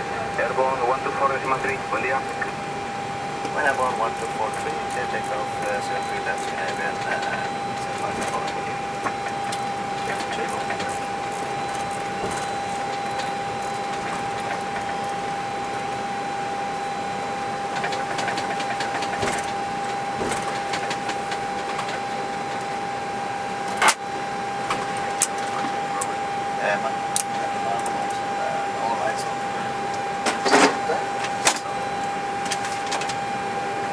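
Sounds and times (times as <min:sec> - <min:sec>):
steady whine: 0:00.0 - 0:33.9.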